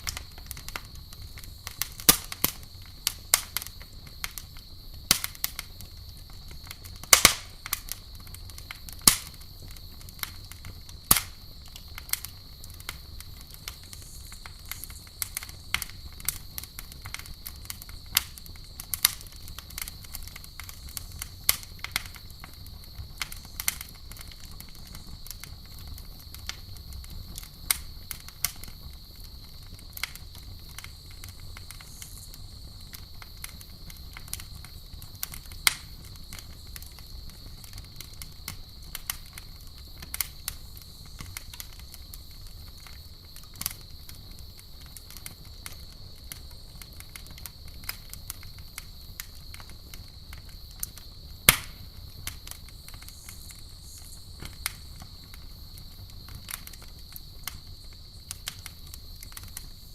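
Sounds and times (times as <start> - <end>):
campfire crackling and popping: 0.0 - 59.9
night insects droning: 0.0 - 59.9.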